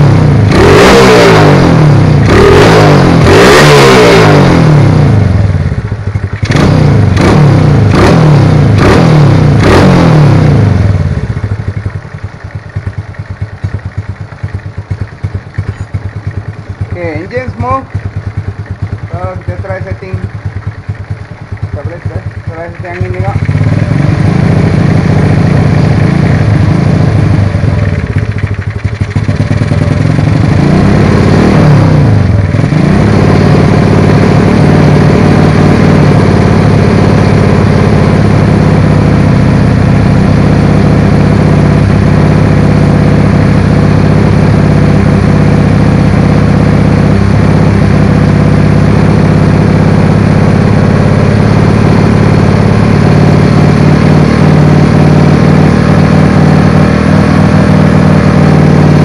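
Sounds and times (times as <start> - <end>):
motorcycle engine idling: 4.5 - 9.6, 10.2 - 59.0.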